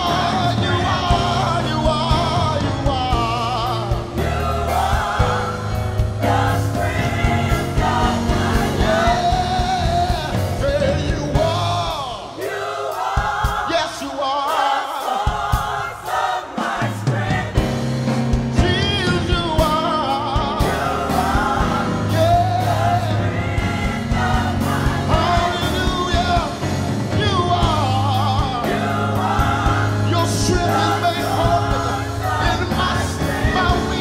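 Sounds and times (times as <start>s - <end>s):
bass instrumental accompaniment: 0.0s - 12.3s, 15.2s - 34.0s
gospel choir singing: 0.0s - 34.0s.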